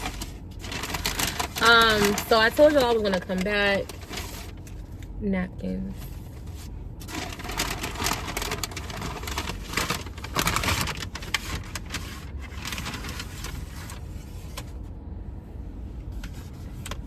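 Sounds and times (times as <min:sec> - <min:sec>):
paper bag rustling and crinkling: 0:00.0 - 0:05.0, 0:06.0 - 0:14.9
low steady rumble: 0:00.0 - 0:17.0.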